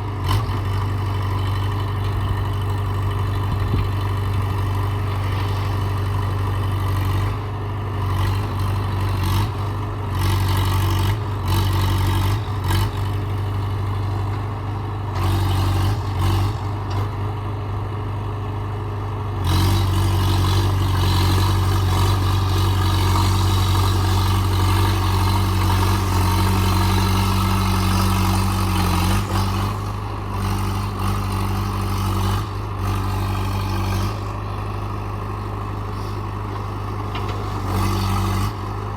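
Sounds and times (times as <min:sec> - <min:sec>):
backhoe diesel engine working: 0:00.0 - 0:38.9.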